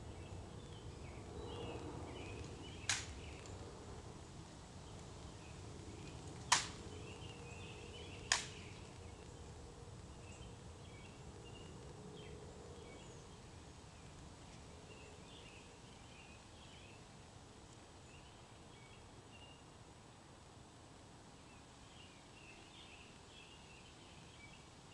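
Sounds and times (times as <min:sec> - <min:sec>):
low outdoor background: 0:00.0 - 0:24.9.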